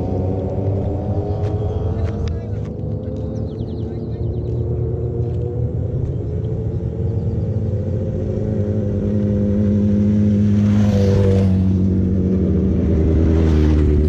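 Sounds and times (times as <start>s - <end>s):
motorcycle engines droning: 0.0s - 14.0s
motorcycle passing by: 0.0s - 14.0s.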